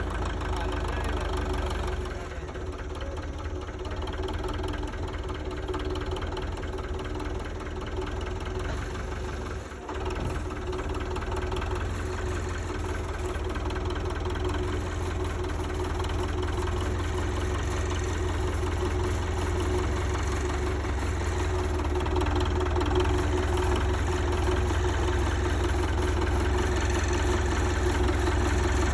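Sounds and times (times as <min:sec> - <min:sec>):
tractor diesel engine knocking: 0:00.0 - 0:28.9.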